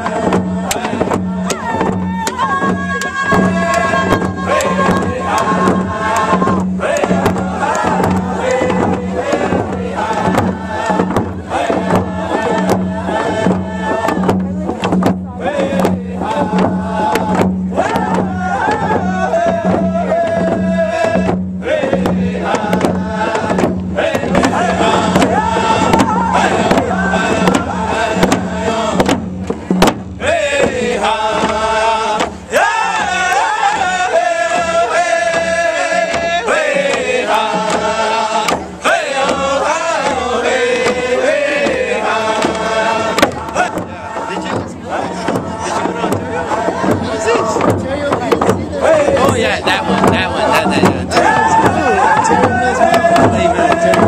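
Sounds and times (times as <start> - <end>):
men chanting in unison: 0.0 - 29.4, 30.2 - 54.0
hand drums beating: 0.0 - 54.0.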